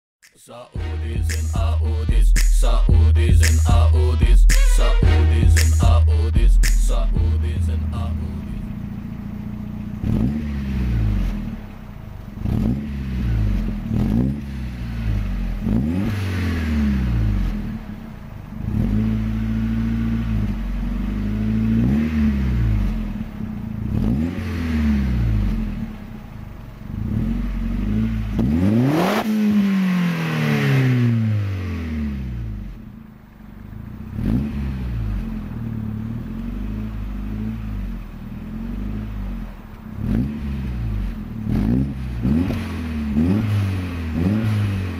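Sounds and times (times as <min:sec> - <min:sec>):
car engine revving: 0:00.5 - 0:44.9.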